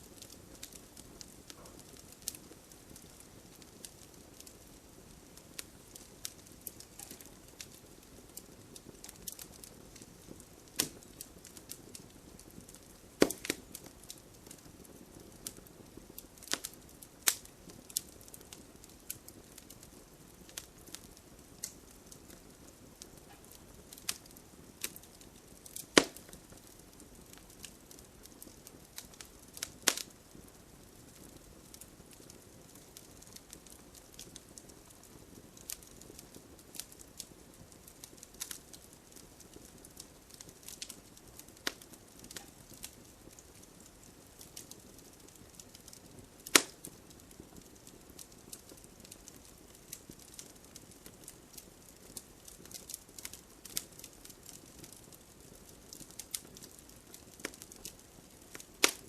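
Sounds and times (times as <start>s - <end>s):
campfire crackling and popping: 0.0s - 59.0s
faint steady hiss: 0.0s - 59.0s.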